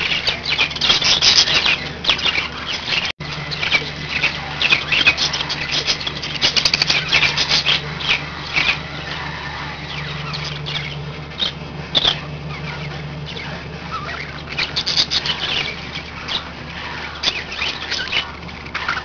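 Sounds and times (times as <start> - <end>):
budgerigars chirping: 0.0 - 19.0
steady low hum: 0.0 - 19.0.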